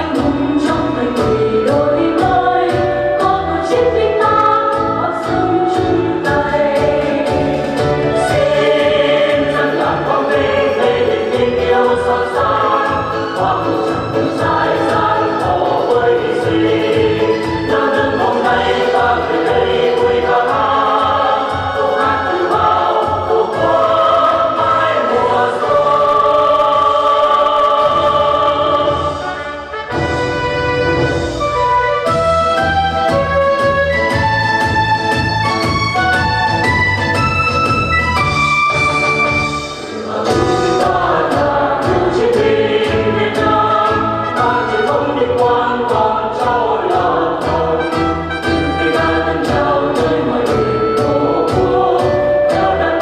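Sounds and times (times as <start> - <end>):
voices singing together: 0.0 - 30.0, 39.8 - 53.0.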